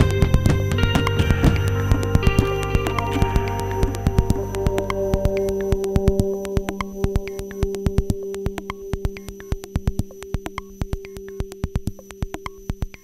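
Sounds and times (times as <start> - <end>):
fast drum machine beat: 0.0 - 13.0
held synthesizer notes: 0.0 - 13.0.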